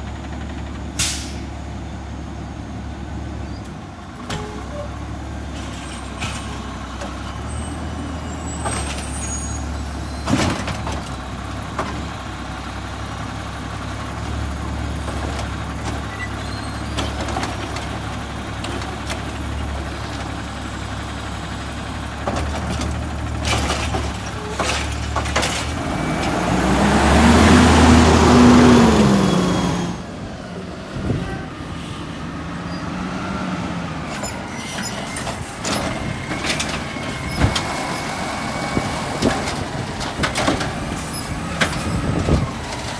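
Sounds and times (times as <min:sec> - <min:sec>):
garbage truck diesel engine: 0:00.0 - 0:42.9.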